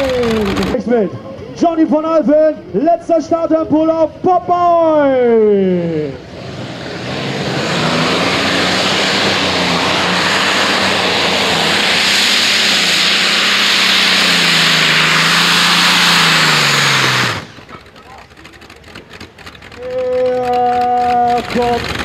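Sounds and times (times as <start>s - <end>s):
tractor engines running flat out: 0.0s - 1.6s, 5.8s - 22.0s.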